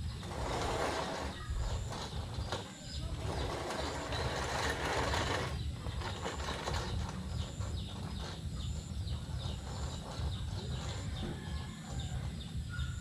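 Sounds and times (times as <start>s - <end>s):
reel mower clicking: 0.0s - 12.2s
reel mower cutting grass: 0.0s - 12.4s.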